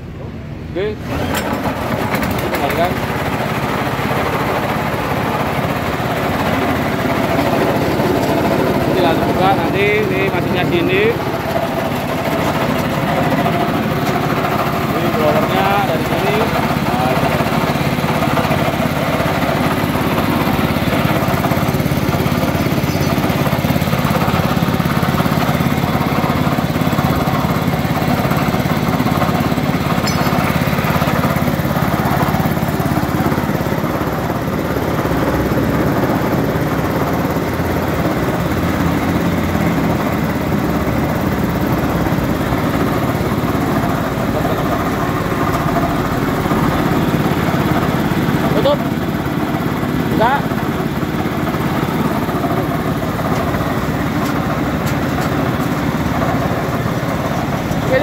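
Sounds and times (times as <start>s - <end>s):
small petrol engine running: 0.8s - 58.0s.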